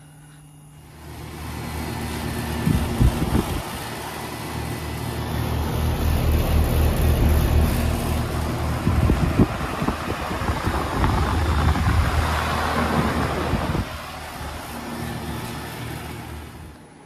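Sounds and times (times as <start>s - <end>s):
low compressor hum: 0.0s - 16.9s
fan air rushing: 0.0s - 17.0s.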